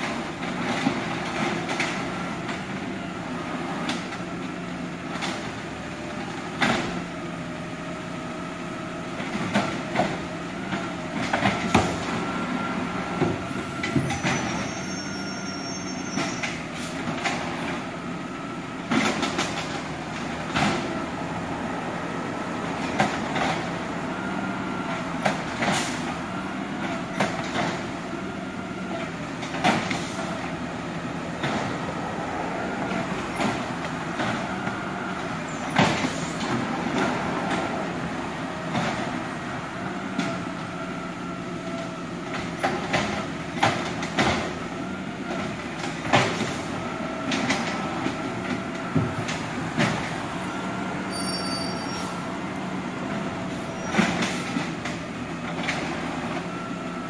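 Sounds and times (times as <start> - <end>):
refuse truck engine hum: 0.0 - 57.0.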